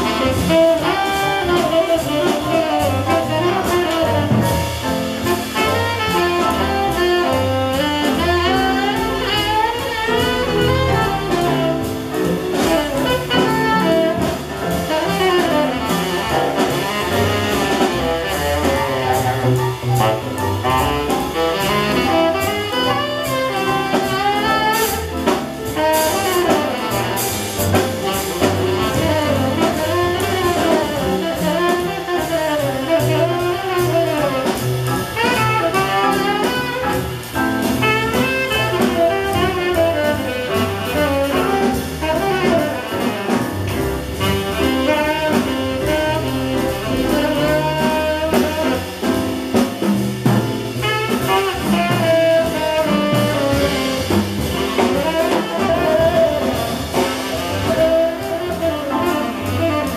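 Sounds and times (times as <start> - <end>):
tenor saxophone improvising: 0.0 - 4.3, 5.1 - 25.1, 25.7 - 49.0, 50.6 - 59.9
drum kit with cymbals: 0.0 - 59.9
plucked double bass: 0.0 - 59.9.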